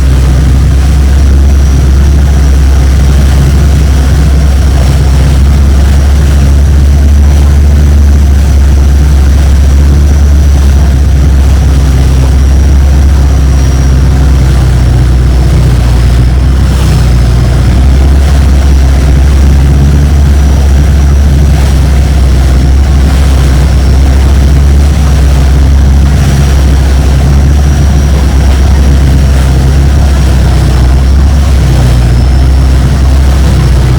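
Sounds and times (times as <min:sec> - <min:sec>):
boat engine running: 0:00.0 - 0:33.9
thin high whine: 0:00.0 - 0:33.9.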